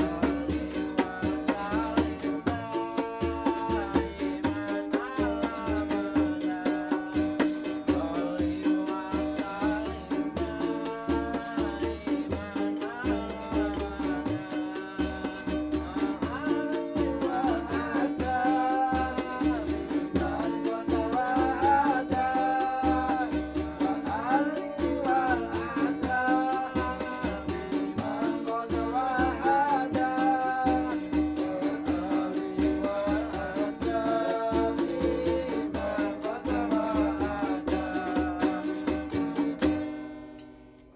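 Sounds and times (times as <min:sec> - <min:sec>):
steady drum beat: 0:00.0 - 0:39.8
fast shaker rhythm: 0:00.0 - 0:39.9
person singing: 0:00.0 - 0:39.9.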